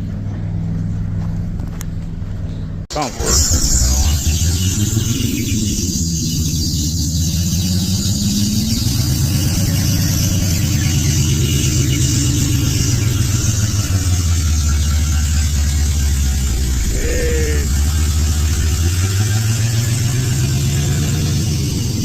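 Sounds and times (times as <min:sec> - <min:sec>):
vehicle engine droning under load: 0:00.0 - 0:22.0.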